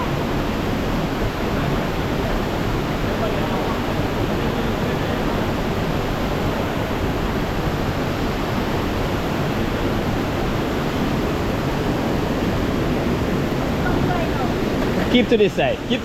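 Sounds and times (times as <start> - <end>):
rushing flowing water: 0.0 - 16.0.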